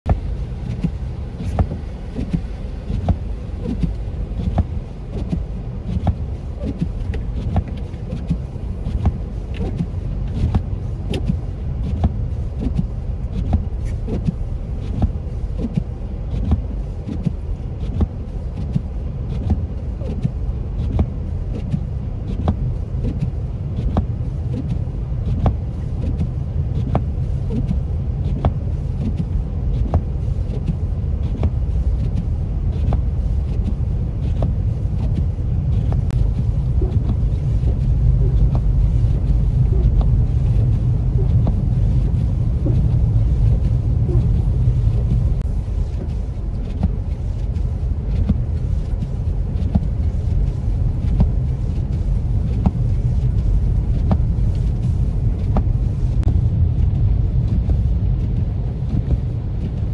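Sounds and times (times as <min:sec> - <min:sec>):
small irregular clicks: 0:00.1 - 0:59.9
tyre and engine rumble: 0:00.1 - 0:59.9.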